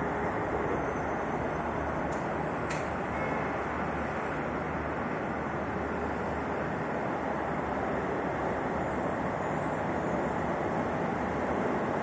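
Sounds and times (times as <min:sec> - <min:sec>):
cable car cabin rumble and hiss: 0:00.0 - 0:12.0.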